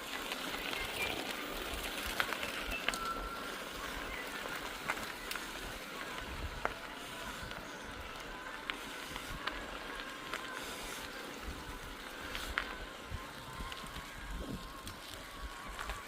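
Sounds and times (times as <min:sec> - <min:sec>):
bike clicks and rattles: 0:00.0 - 0:16.0
bike tyre and wind noise: 0:00.0 - 0:16.0.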